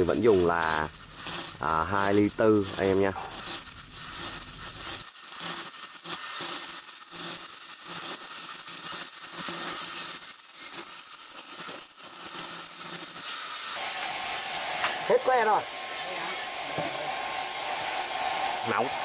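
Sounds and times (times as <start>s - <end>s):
welding arc crackling and sizzling: 0.0s - 19.0s.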